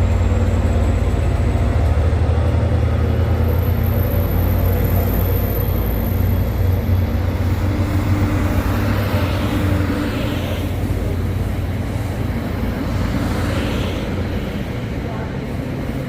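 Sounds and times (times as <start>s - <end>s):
diesel train engine drone: 0.0s - 16.0s
train wheels rumbling on rails: 0.0s - 16.0s.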